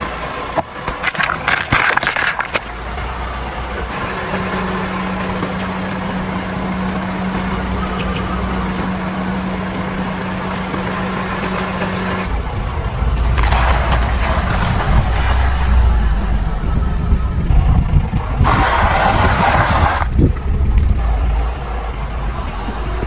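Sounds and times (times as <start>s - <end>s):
car engine humming: 0.0s - 23.0s
crunching under car tyres: 0.0s - 23.0s.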